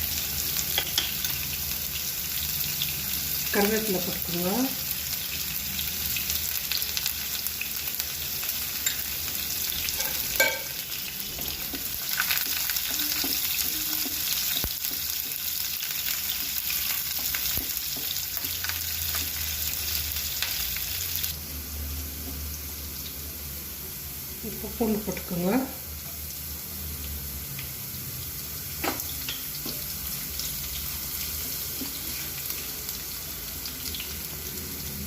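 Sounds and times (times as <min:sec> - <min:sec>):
onions sizzling in hot oil: 0:00.0 - 0:35.0.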